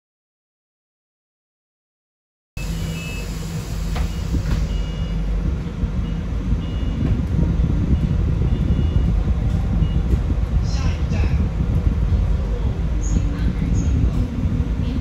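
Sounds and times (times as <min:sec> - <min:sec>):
bus cabin low rumble: 0:02.6 - 0:15.0.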